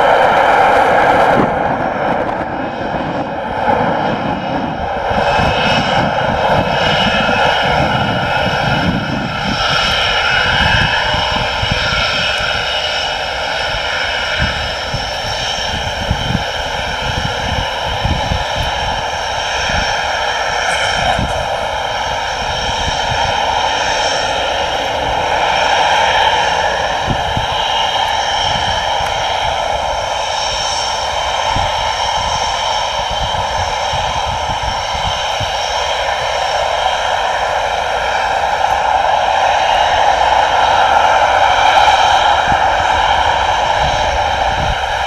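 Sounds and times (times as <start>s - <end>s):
jet engines roaring with whine: 0.0s - 45.0s.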